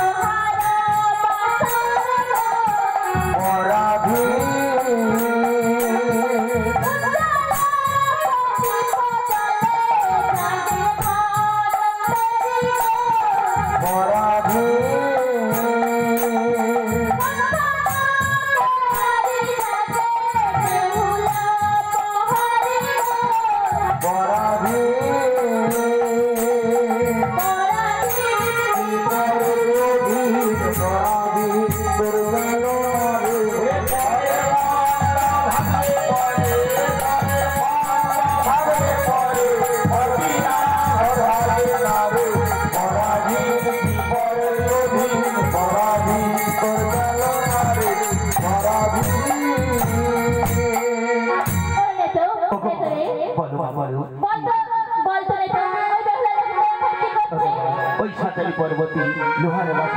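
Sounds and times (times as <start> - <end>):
steady percussion beat: 0.0 - 52.0.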